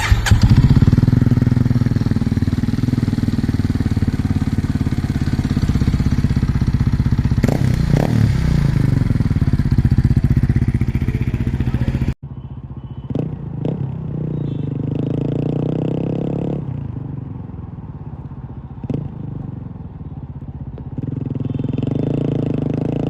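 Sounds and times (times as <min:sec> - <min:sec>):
motorcycle engine idling: 0:00.0 - 0:14.8, 0:16.9 - 0:22.2.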